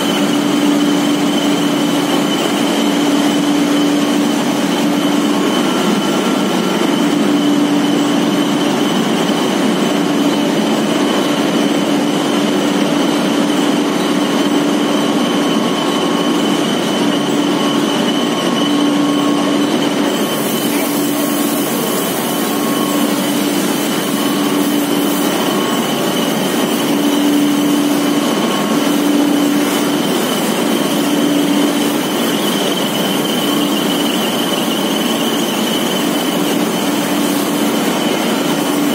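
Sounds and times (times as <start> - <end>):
machinery whirring with high whine: 0.0 - 38.9.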